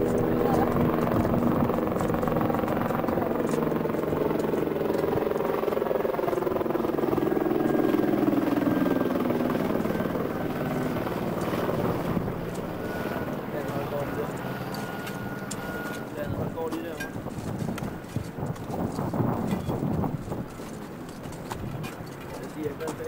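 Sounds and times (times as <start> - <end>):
helicopter passing overhead: 0.0 - 23.0.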